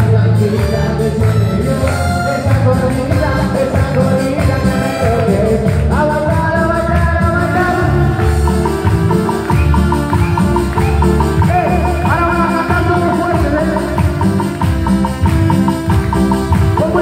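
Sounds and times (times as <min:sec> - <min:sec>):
electronic keyboard melody: 0:00.0 - 0:17.0
person singing into a microphone: 0:00.0 - 0:17.0
steady bass beat: 0:00.0 - 0:17.0.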